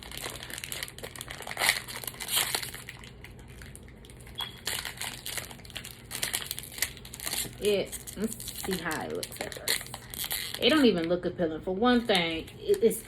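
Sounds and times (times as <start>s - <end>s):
wrapper crinkling: 0.0s - 11.1s.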